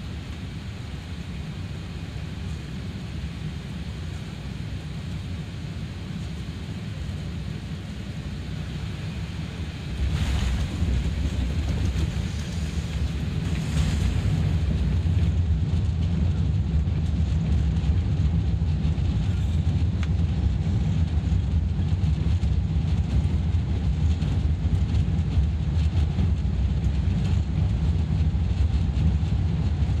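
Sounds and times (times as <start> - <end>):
low rumble in plane cabin: 0.0 - 30.0.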